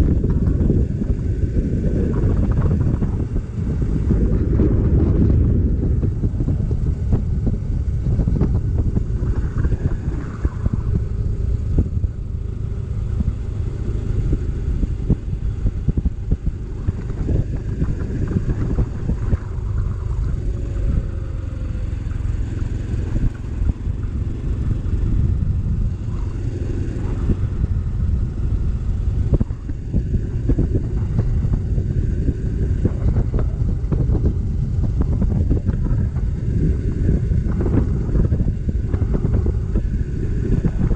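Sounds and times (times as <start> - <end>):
motorcycle engine rumble: 0.0 - 40.9
road noise: 0.0 - 40.9
wind buffeting microphone: 0.0 - 40.9.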